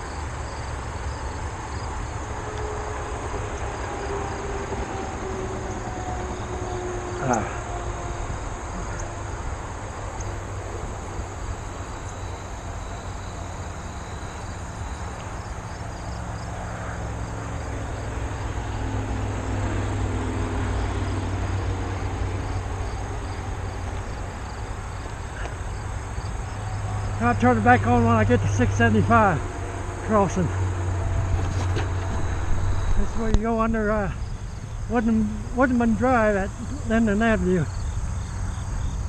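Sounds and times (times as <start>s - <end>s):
bicycle riding rumble and hiss: 0.0s - 39.0s
insect chorus: 0.0s - 39.0s.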